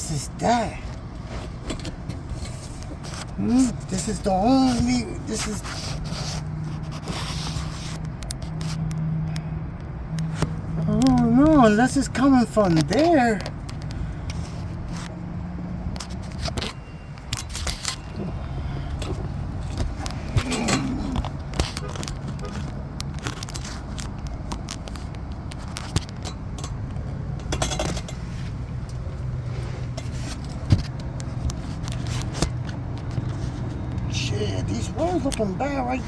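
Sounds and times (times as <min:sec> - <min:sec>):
wires being handled: 0:00.0 - 0:09.0, 0:10.2 - 0:36.0.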